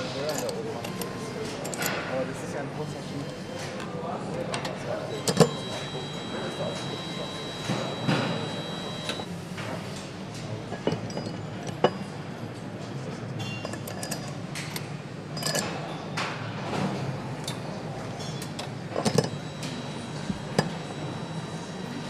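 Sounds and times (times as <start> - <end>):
steady factory hum: 0.0 - 22.0.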